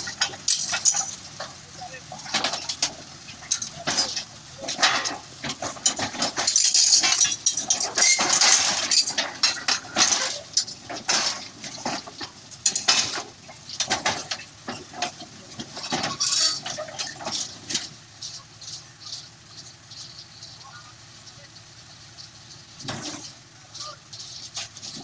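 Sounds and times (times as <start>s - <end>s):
bulldozer tracks clanking and squealing: 0.0s - 25.0s.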